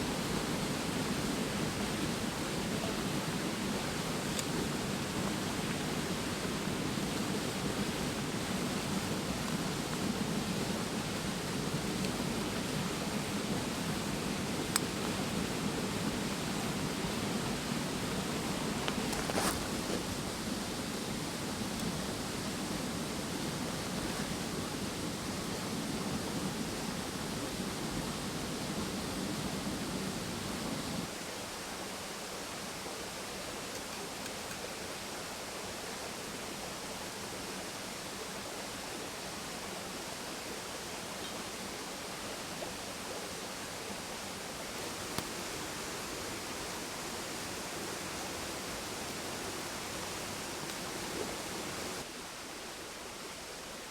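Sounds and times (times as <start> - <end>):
mountain stream flowing: 0.0 - 53.9.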